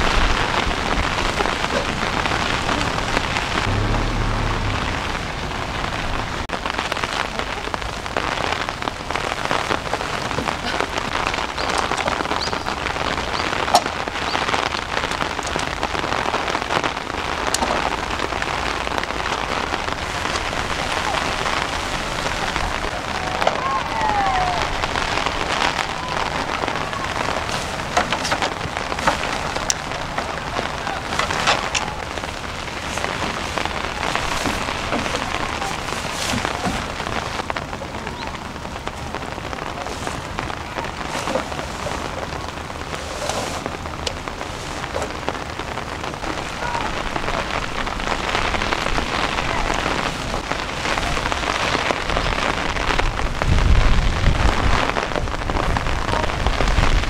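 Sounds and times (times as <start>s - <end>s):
heavy rain on deck and tent: 0.0s - 57.0s
tent fabric crackling: 0.0s - 57.0s.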